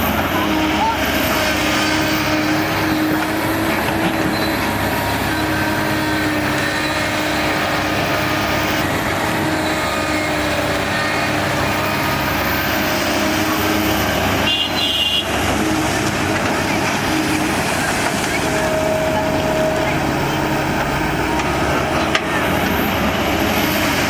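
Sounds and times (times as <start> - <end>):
heavy machinery diesel engine running: 0.0 - 24.0.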